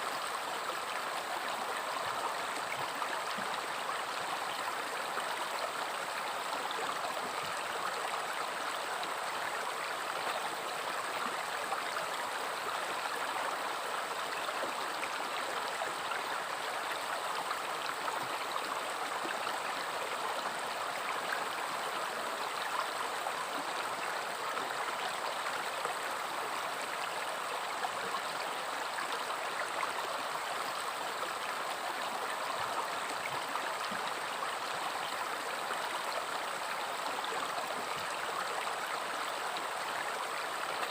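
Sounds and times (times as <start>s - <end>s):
river water babbling over stones: 0.0s - 40.9s.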